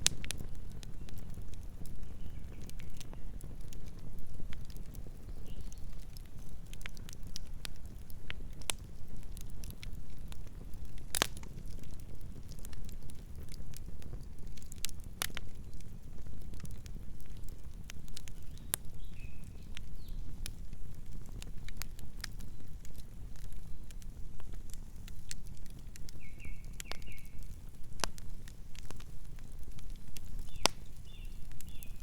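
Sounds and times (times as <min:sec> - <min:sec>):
low rumble of flames: 0:00.0 - 0:32.0
wood crackling and popping: 0:00.0 - 0:32.0.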